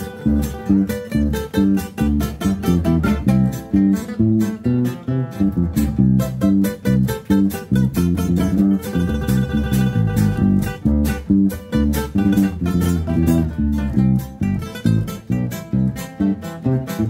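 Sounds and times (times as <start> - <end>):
guitars and bass with beat: 0.0 - 17.0.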